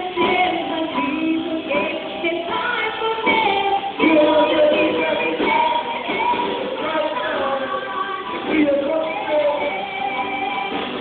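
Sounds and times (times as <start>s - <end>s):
drums: 0.0s - 11.0s
electric guitar: 0.0s - 11.0s
person singing: 0.0s - 11.0s.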